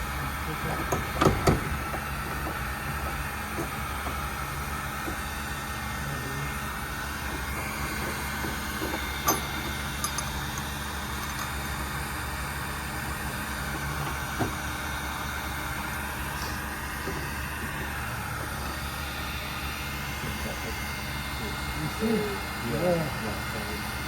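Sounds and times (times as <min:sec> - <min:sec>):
mechanical hum and hiss: 0:00.0 - 0:24.0.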